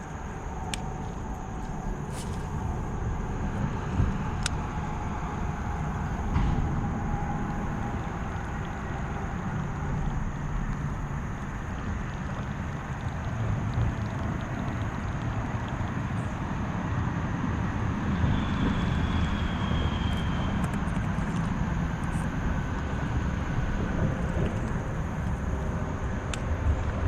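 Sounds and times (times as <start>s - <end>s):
distant highway traffic rumble: 0.0s - 27.0s.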